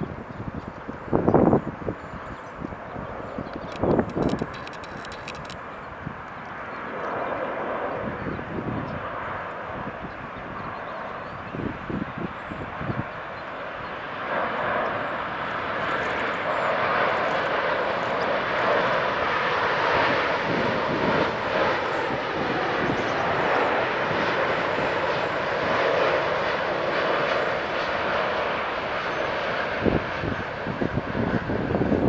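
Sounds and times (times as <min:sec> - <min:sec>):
jet engine rushing: 0:00.1 - 0:32.0.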